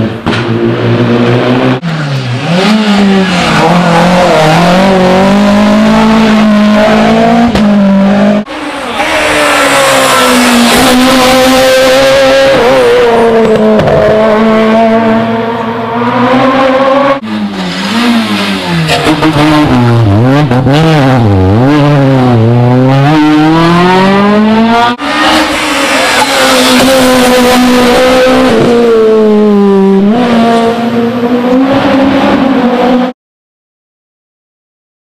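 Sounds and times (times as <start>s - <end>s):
rally car engines revving hard: 0.0s - 33.1s.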